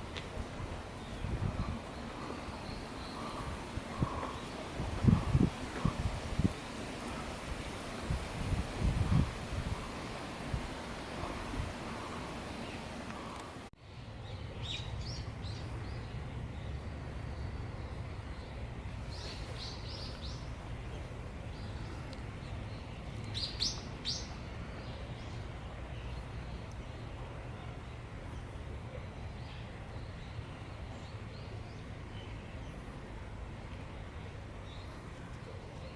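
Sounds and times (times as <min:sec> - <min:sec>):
small birds chirping: 0:00.0 - 0:33.2.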